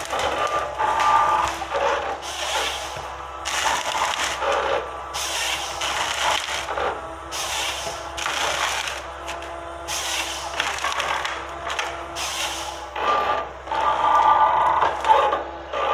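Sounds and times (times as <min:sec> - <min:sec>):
diesel engine hum: 0:00.0 - 0:15.9.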